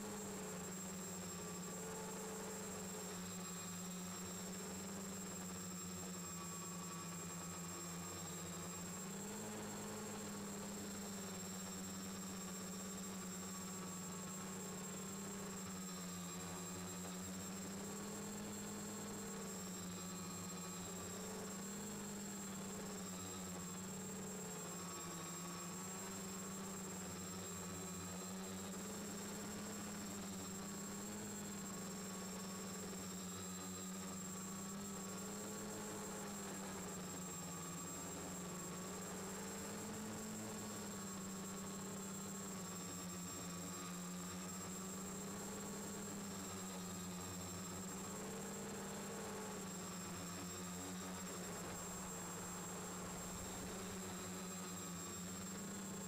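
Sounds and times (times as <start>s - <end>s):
drone motors and propellers humming: 0.0s - 56.0s
steady high whine: 0.0s - 56.0s.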